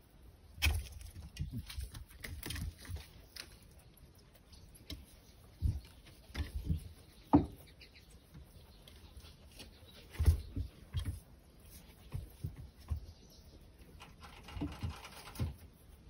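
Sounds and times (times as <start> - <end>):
rabbits rustling straw: 0.0 - 16.0.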